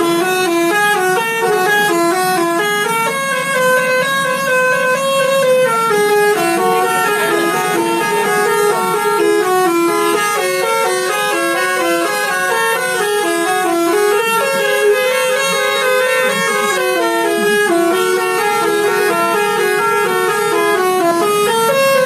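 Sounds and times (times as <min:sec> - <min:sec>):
musical bus air horn tune: 0:00.0 - 0:22.0.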